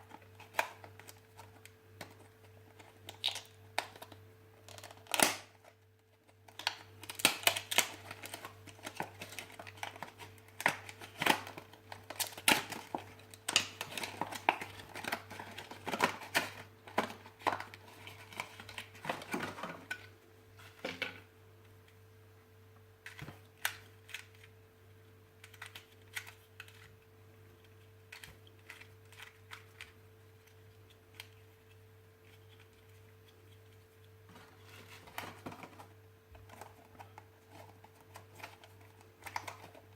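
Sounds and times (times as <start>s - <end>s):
packaging clicks and rustling: 0.0s - 20.1s, 25.4s - 27.0s, 27.7s - 39.9s.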